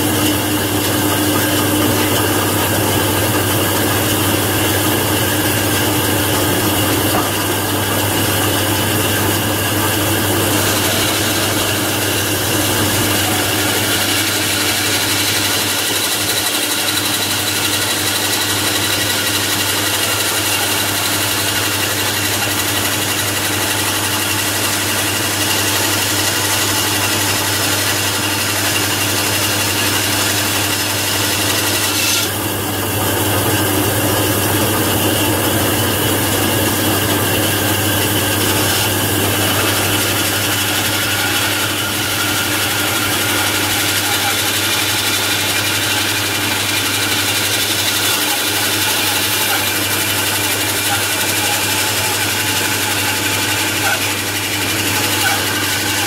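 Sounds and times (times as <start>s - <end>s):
bandsaw running: 0.0s - 56.0s.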